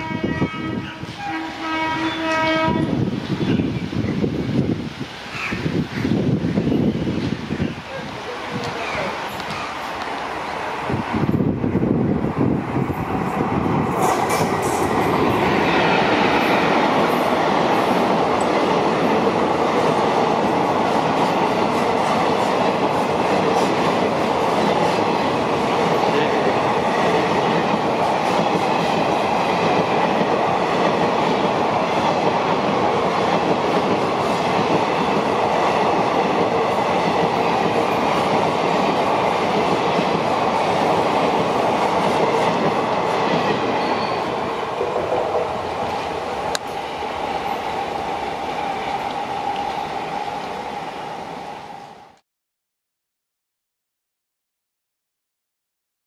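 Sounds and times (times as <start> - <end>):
train passing at speed: 0.0 - 52.2.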